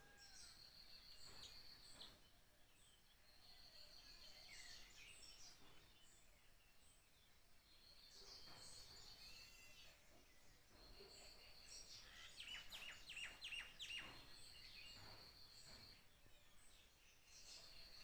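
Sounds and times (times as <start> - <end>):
bird chirps: 0.1 - 18.0.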